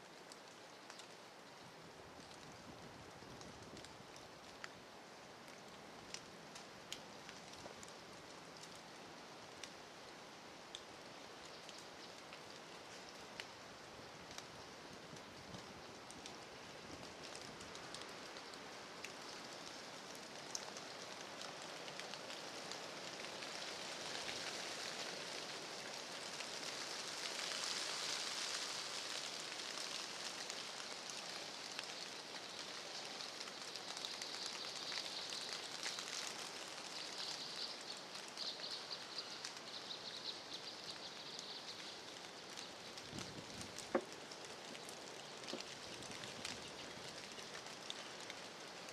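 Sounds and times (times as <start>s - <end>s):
light rain pattering on leaves: 0.0s - 48.9s.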